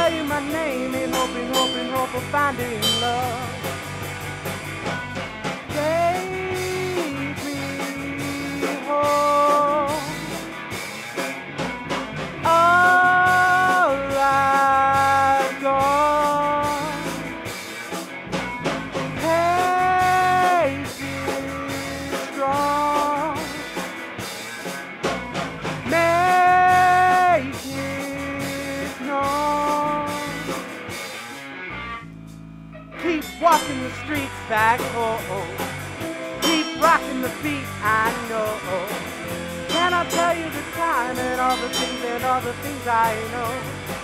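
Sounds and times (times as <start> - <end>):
steady drum beat: 0.0 - 31.3, 33.1 - 44.0
blues-rock lead sliding notes: 0.0 - 44.0
guitar: 0.0 - 44.0.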